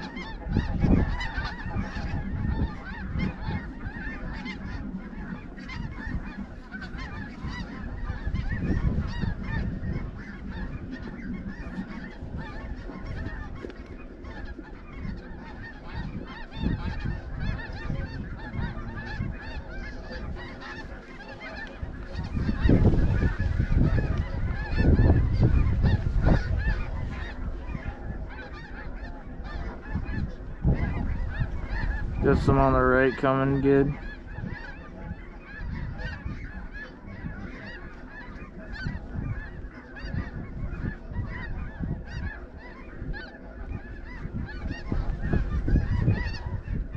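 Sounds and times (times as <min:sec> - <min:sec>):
flock of geese honking: 0:00.0 - 0:46.9.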